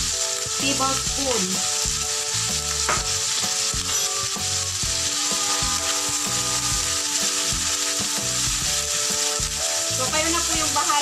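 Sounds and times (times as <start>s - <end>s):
background music: 0.0s - 11.0s
meat sizzling in a frying pan: 0.0s - 11.0s
spatula scraping a pan: 1.4s - 10.8s.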